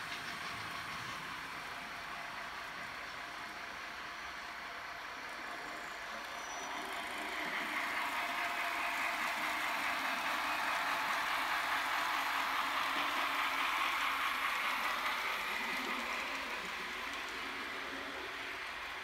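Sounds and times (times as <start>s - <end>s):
model locomotive engine sound: 0.0s - 19.0s
model train running on track: 0.0s - 19.0s.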